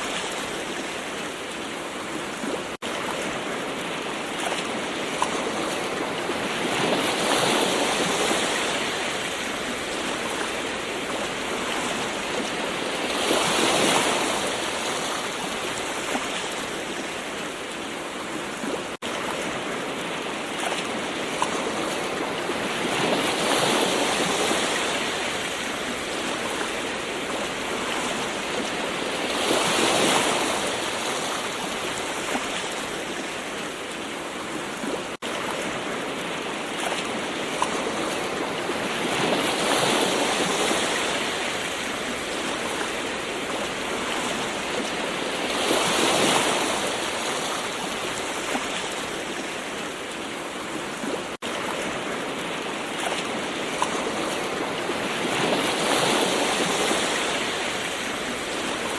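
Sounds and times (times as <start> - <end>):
gentle ocean waves breaking: 0.0 - 58.9.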